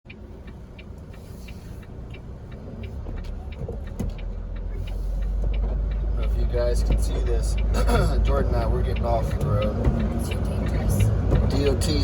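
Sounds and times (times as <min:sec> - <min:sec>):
truck engine rumbling: 0:00.1 - 0:12.0.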